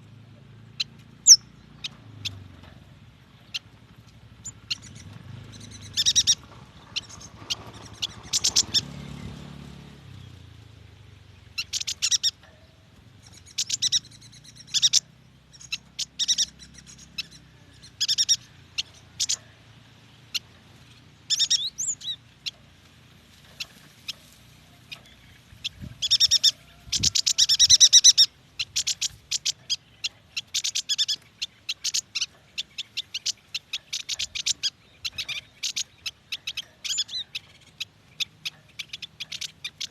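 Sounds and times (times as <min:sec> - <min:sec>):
bird chirping: 0:00.0 - 0:39.9
bird chattering notes: 0:00.7 - 0:09.0, 0:11.5 - 0:19.6, 0:20.2 - 0:22.7, 0:23.5 - 0:39.9.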